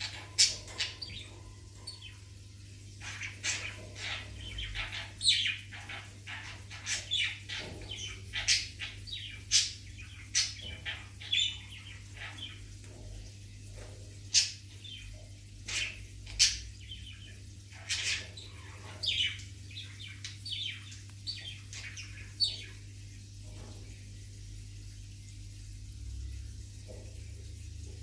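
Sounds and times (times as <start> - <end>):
small birds chirping: 0.0 - 25.4.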